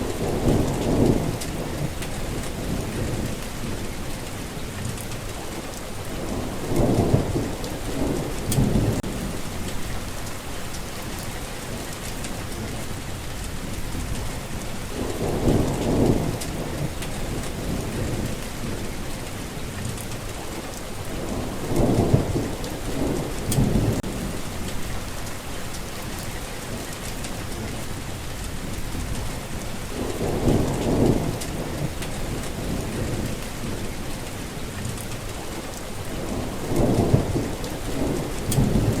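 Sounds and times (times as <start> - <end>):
low rolling thunder: 0.0 - 5.2, 6.0 - 20.2, 21.0 - 39.0
steady rainfall: 0.0 - 39.0.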